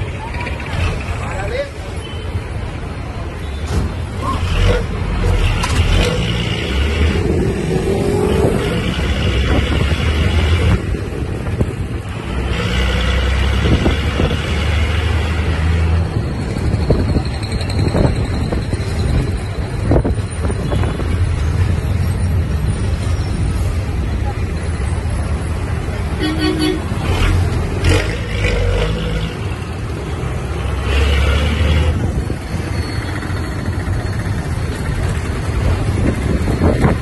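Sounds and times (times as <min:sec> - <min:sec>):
bus engine and road rumble: 0:00.0 - 0:37.0.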